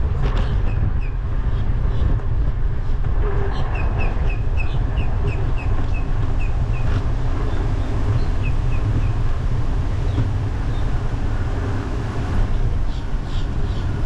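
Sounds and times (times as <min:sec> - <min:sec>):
bicycle tyre rumble on pavement: 0:00.0 - 0:14.0
wind buffeting microphone: 0:00.0 - 0:14.0.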